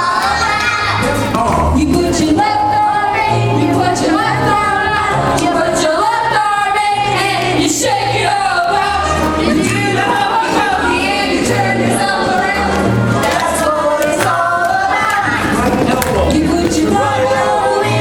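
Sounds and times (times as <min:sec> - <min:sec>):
bass line: 0:00.0 - 0:18.0
woman singing: 0:01.4 - 0:18.0.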